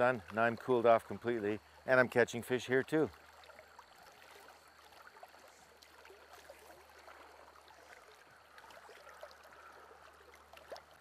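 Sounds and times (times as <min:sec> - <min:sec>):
faint river current rushing: 0:00.0 - 0:11.0.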